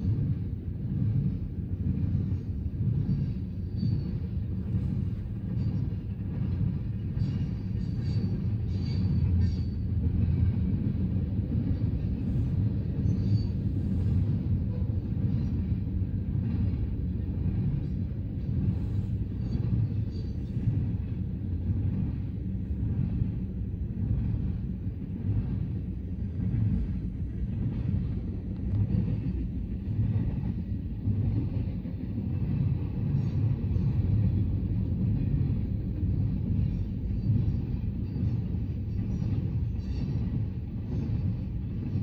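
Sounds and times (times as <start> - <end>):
train cars rumbling past: 0.0 - 42.0.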